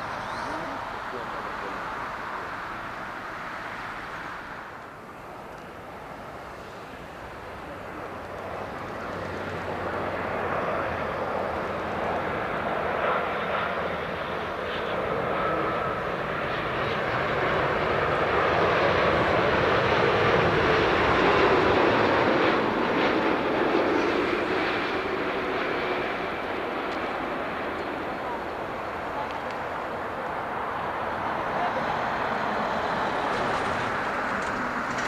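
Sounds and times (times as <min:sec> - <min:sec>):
jet engines passing by: 0:00.0 - 0:35.0.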